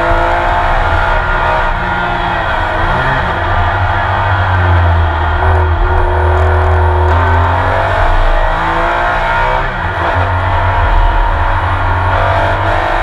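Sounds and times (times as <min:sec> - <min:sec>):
racing engine revving: 0:00.0 - 0:13.0.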